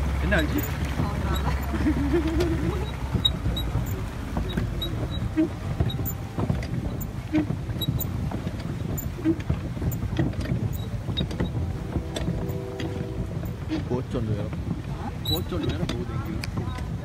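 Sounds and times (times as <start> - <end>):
low engine rumble: 0.0 - 17.0
water splashing along boat: 0.0 - 17.0.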